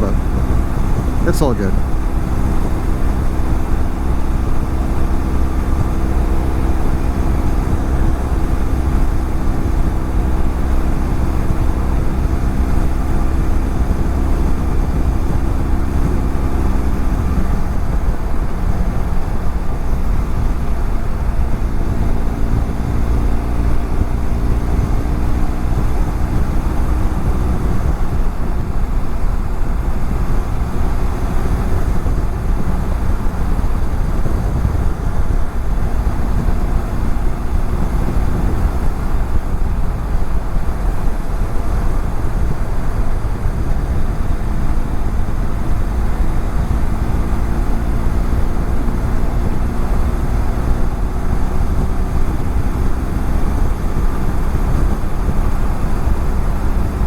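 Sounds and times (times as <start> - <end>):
motorcycle engine cruising: 0.0 - 57.0
road rumble: 0.0 - 57.0
wind: 0.0 - 57.0.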